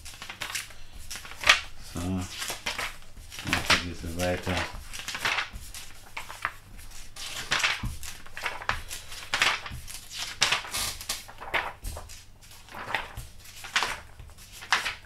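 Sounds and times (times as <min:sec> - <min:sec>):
paper pages flipping: 0:00.0 - 0:15.0.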